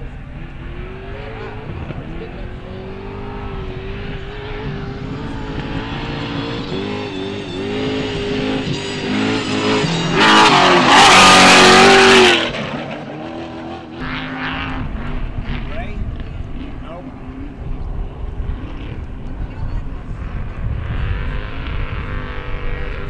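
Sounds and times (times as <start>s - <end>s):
racing engine accelerating: 0.0s - 23.0s
truck passing at full throttle: 0.0s - 23.0s.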